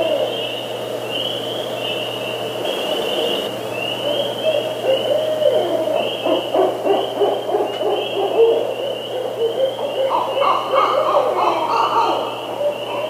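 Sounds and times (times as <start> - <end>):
owl hooting: 0.0 - 13.0.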